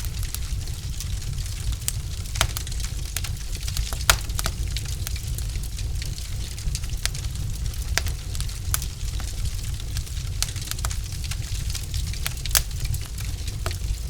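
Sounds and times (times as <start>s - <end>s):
logs crackling and popping: 0.0s - 14.0s
low rumble of fire: 0.0s - 14.0s.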